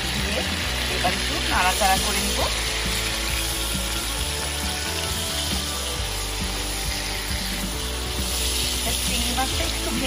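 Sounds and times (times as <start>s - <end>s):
background music: 0.0s - 10.0s
prawns sizzling in hot oil: 0.0s - 10.0s
spatula stirring: 0.0s - 10.0s.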